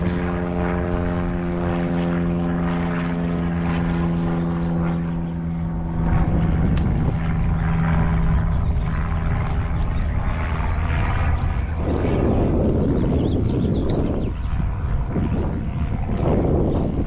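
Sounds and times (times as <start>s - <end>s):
propeller airplane engine drone: 0.0s - 17.0s
wind rumble on microphone: 0.0s - 17.0s.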